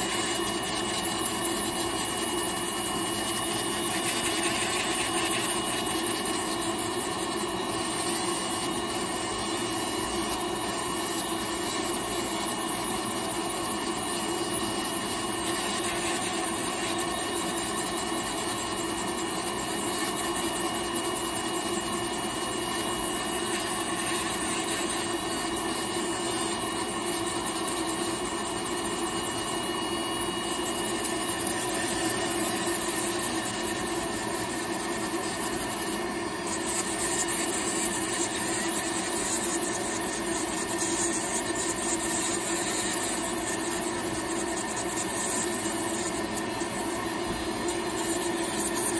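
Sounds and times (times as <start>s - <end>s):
electric nail drill grinding: 0.0s - 48.9s.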